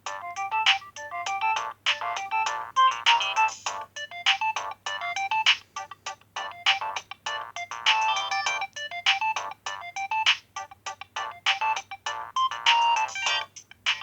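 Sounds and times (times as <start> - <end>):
polyphonic phone ringtone: 0.0 - 14.0.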